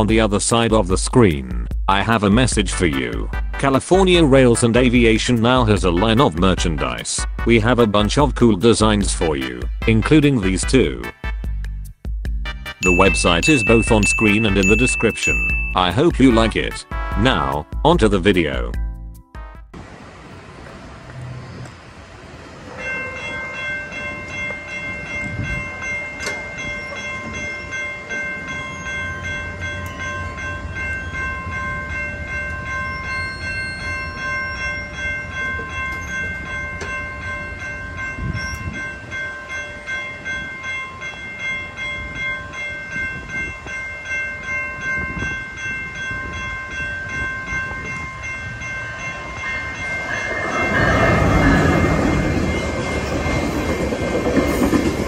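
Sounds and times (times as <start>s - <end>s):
train rumble: 0.0s - 11.0s, 19.8s - 55.0s
railroad crossing bells ringing: 0.0s - 11.3s, 12.6s - 55.0s.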